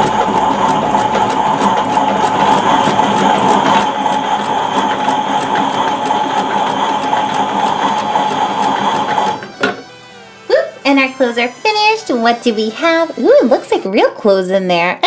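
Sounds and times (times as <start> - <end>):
toy washing machine whirring: 0.0 - 13.9.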